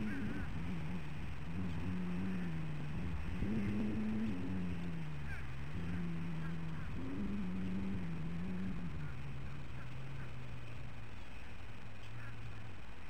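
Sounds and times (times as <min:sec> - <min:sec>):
motor drone: 0:00.0 - 0:12.5.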